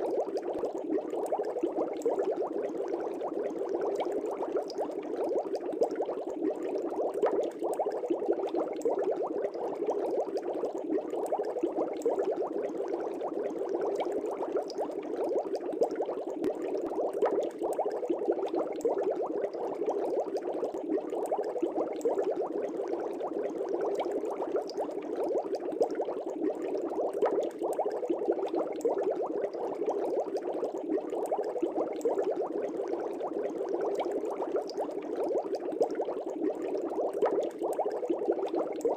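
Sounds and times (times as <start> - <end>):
air bubbles burbling in water: 0.0 - 38.9.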